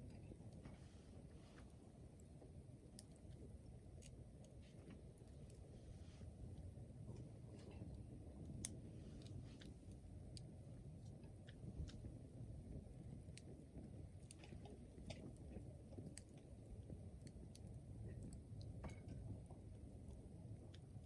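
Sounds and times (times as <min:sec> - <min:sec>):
faint low rumble: 0:00.0 - 0:21.0
wood fire crackling: 0:00.0 - 0:21.0.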